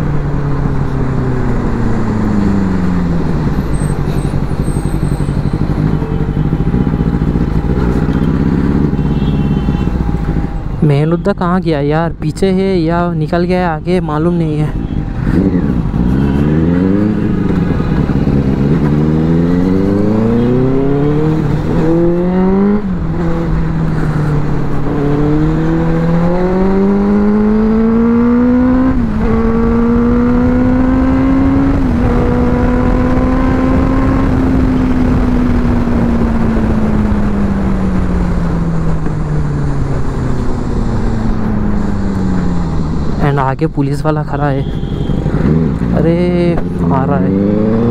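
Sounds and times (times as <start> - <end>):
motorcycle engine accelerating: 0.0 - 10.8, 14.8 - 43.2, 44.6 - 47.9
wind and road noise: 0.0 - 47.9.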